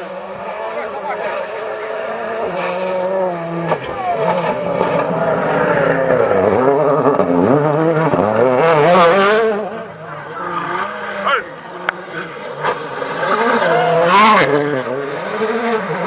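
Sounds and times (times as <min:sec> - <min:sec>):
rally car engine revving past: 0:00.0 - 0:16.0.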